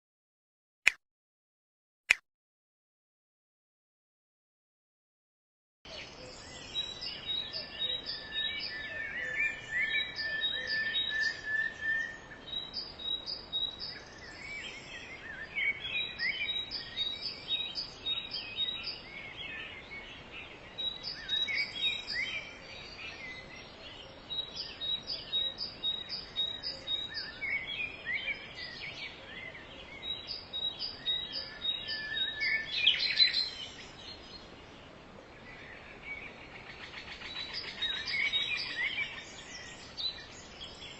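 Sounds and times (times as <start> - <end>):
birds chirping and trilling: 5.9 - 40.9
faint background hiss: 5.9 - 40.9.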